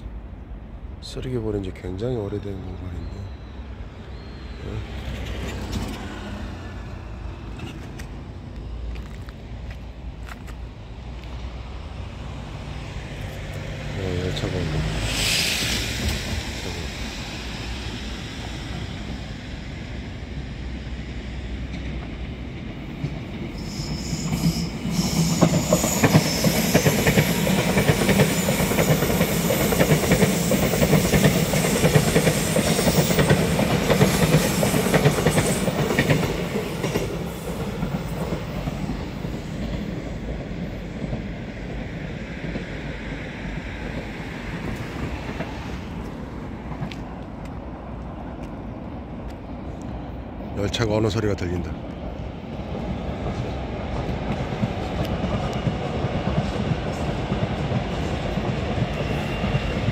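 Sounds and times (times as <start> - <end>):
subway train passing: 0.0 - 59.9.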